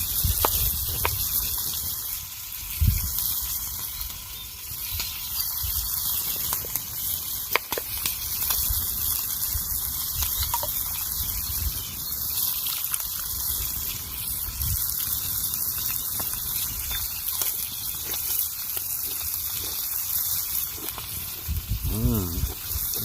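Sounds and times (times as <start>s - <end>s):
faint ticks and drips: 0.2s - 21.6s.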